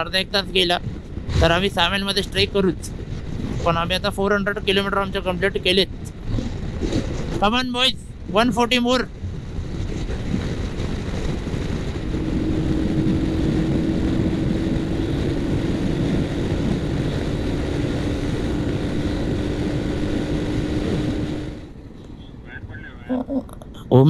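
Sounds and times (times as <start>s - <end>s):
motorcycle engine drone: 0.0s - 23.0s
wind rushing on microphone: 0.0s - 23.1s
steady hum: 0.0s - 24.0s.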